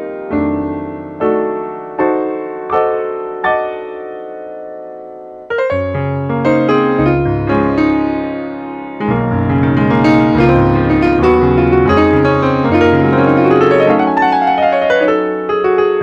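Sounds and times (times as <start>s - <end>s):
keyboard piano chords: 0.0s - 16.0s.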